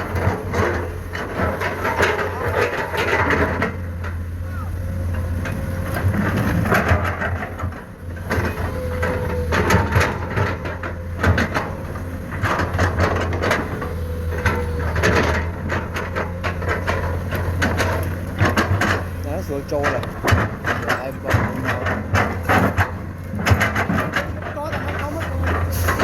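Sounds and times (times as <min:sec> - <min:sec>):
diesel engine hum: 0:00.0 - 0:26.0
excavator bucket clanking and scraping: 0:00.0 - 0:26.0.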